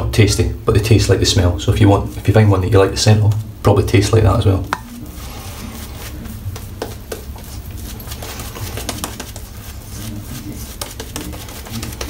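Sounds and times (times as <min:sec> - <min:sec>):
shaving brush scrubbing lather: 0:01.3 - 0:12.0.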